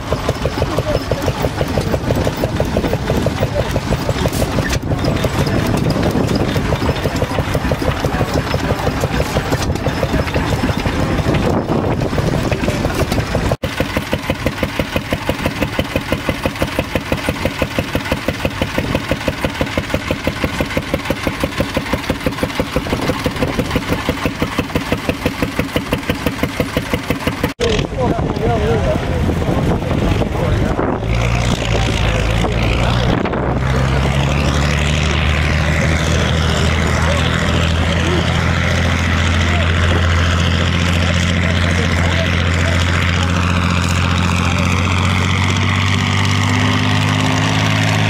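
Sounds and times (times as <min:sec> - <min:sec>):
engine exhaust beating: 0:00.0 - 0:48.0
stationary engine running: 0:00.0 - 0:48.0.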